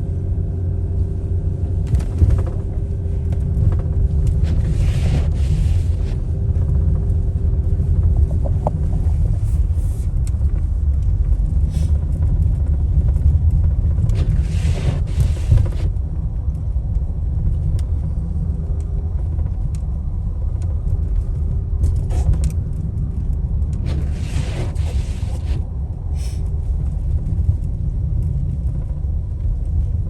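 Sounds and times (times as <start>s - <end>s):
low rumble of highway traffic: 0.0s - 30.0s.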